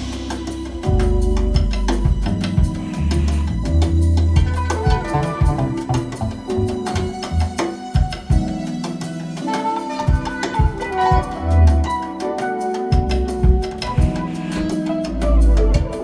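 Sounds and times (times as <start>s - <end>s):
instrumental jazz through loudspeakers: 0.0s - 16.0s.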